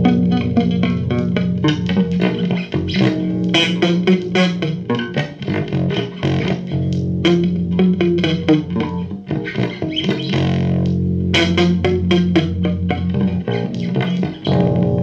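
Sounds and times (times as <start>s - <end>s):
bass guitar notes: 0.0s - 15.0s
plucked guitar: 0.0s - 15.0s.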